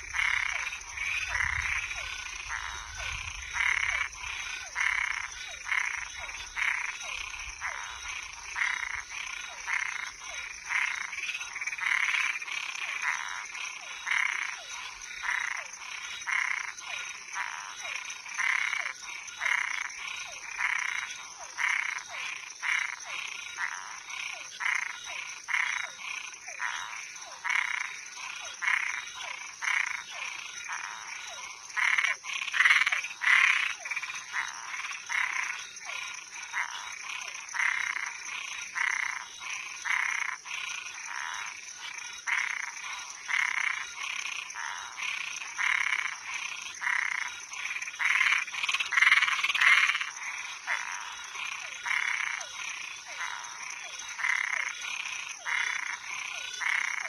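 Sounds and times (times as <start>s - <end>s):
frogs croaking: 0.0s - 57.0s
high-pitched insect drone: 0.0s - 57.0s.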